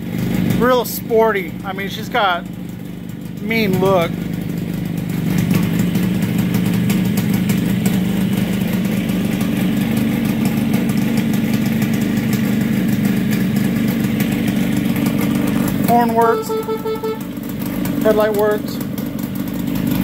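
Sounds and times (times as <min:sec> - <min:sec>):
two-stroke engine idling: 0:00.0 - 0:20.0.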